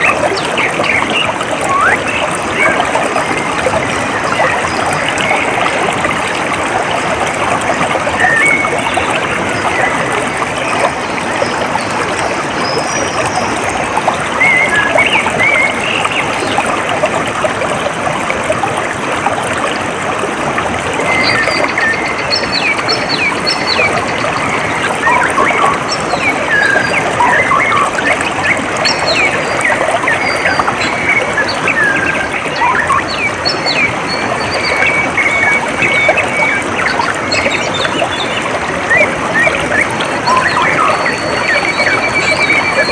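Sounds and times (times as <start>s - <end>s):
trickle of running water: 0.0s - 42.9s.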